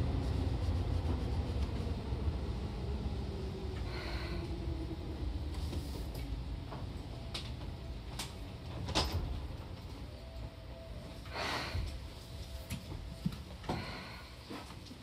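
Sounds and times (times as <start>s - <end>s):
electric train low hum: 0.0s - 15.0s.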